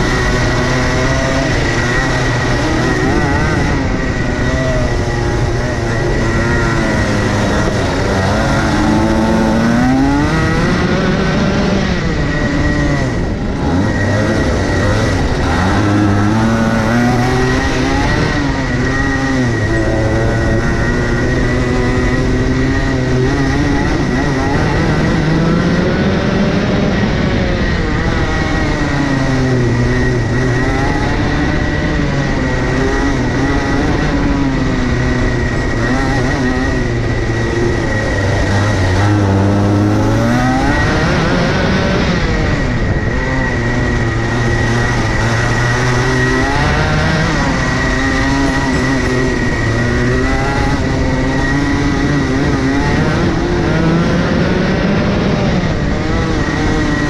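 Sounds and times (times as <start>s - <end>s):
go-kart engine revving: 0.0s - 57.0s
high whine: 0.0s - 57.0s.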